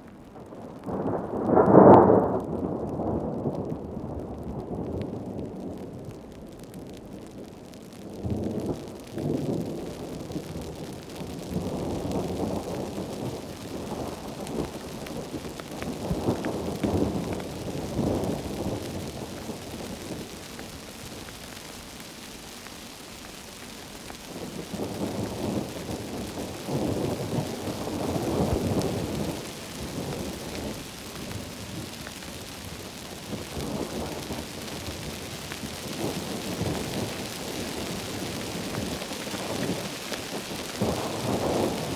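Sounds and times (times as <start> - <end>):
heavy rain among trees: 0.0 - 41.9.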